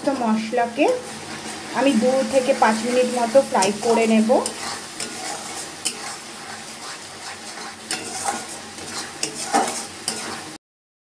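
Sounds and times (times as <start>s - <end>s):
paste sizzling in oil: 0.0s - 10.6s
metal spatula scraping pan: 0.1s - 10.6s.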